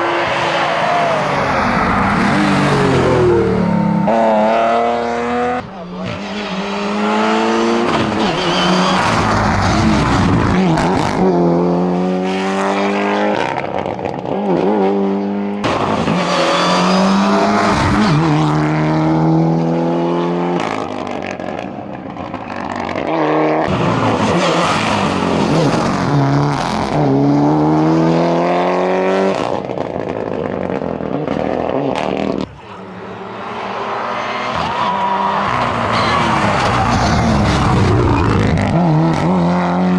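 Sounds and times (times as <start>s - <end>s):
car engine revving and shifting gears: 0.0s - 39.9s.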